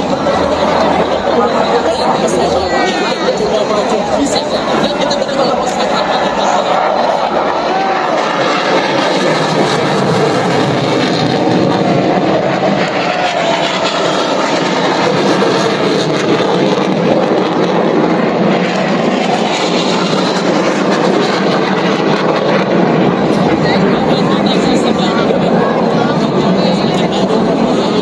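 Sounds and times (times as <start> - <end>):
jet engines roaring overhead: 0.0 - 28.0.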